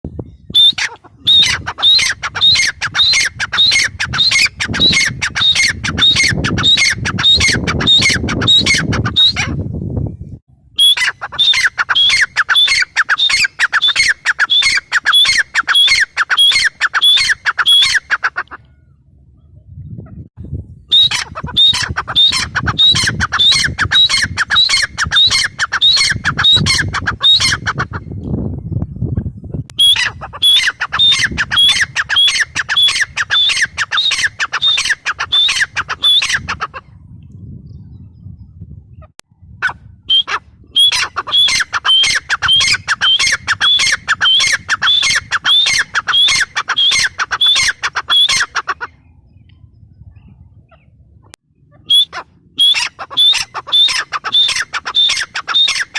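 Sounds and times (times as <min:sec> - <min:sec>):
francolin calling: 0:00.3 - 0:09.5, 0:10.8 - 0:18.9, 0:20.9 - 0:27.9, 0:29.8 - 0:36.6, 0:40.0 - 0:49.7, 0:51.7 - 0:55.9.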